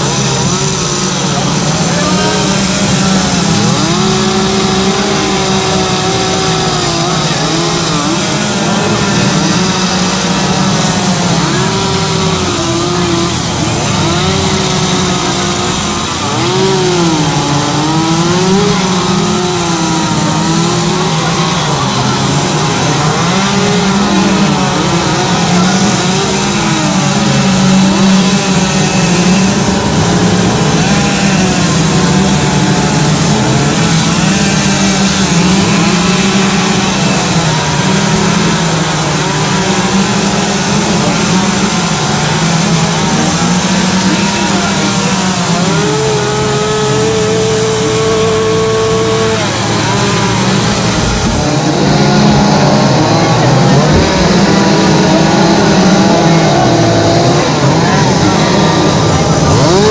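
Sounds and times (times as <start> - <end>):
chainsaws cutting wood: 0.0 - 59.9.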